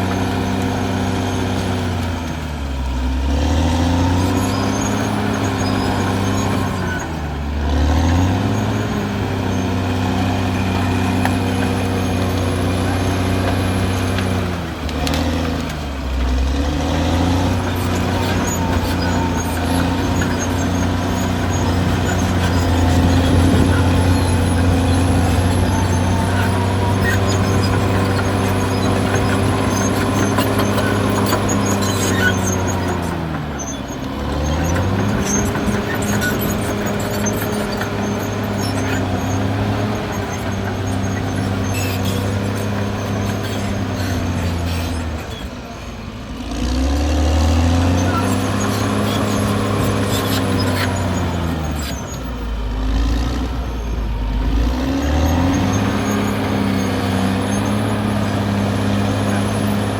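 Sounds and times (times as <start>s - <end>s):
bulldozer diesel engine: 0.0s - 59.9s
faint high squeaks: 3.5s - 14.5s, 16.2s - 45.9s, 47.5s - 59.9s.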